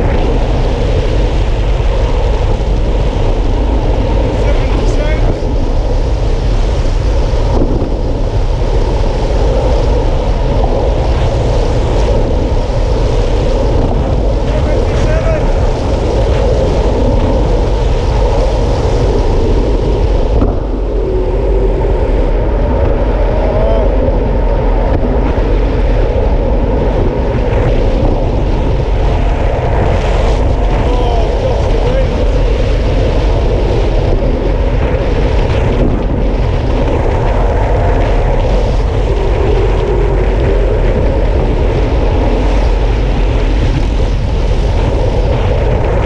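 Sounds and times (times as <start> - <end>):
road rumble: 0.0 - 46.0
wind buffeting microphone: 0.0 - 46.0.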